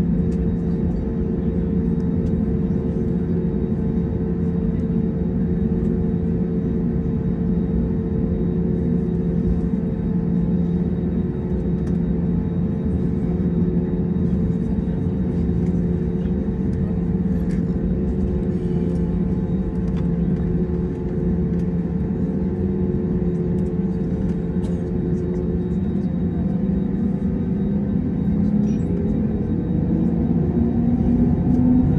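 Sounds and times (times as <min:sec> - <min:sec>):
aircraft cabin engine hum: 0:00.0 - 0:31.9.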